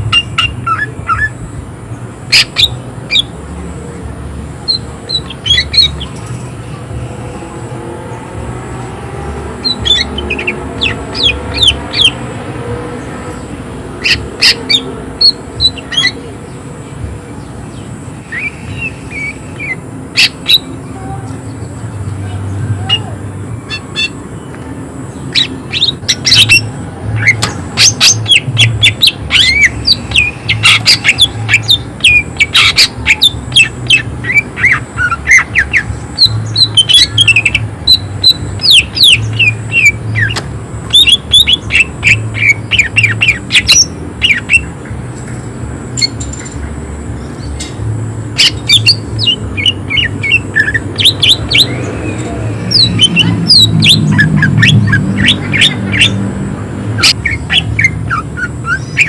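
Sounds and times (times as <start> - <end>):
bird singing harsh notes: 0.0 - 1.5, 4.6 - 16.7, 17.4 - 24.5, 25.1 - 44.8, 45.8 - 59.0.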